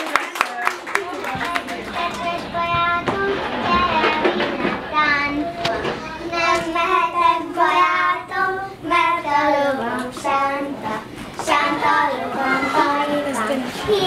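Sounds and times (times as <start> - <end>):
girls singing: 1.0 - 14.0.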